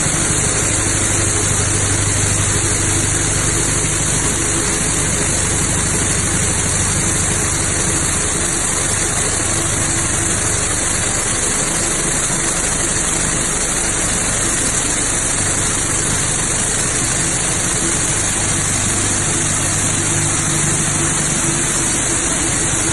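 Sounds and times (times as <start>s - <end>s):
machine humming and hissing: 0.0s - 22.9s.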